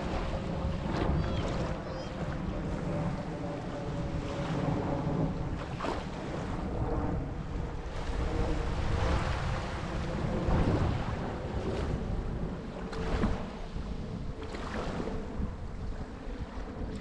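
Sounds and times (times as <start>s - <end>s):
small waves washing on beach: 0.0s - 17.0s
wind on microphone: 0.0s - 17.0s.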